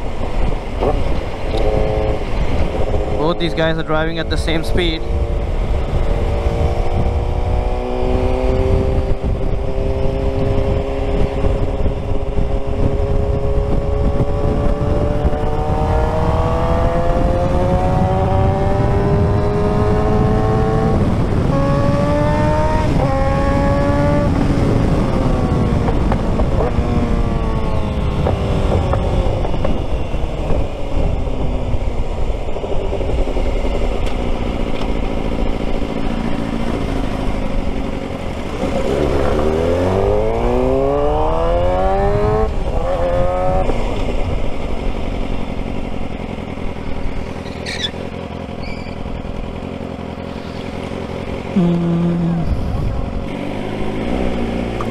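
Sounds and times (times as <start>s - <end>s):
wind noise on microphone: 0.0s - 47.9s, 51.6s - 54.9s
motorcycle engine upshifting: 5.1s - 54.9s.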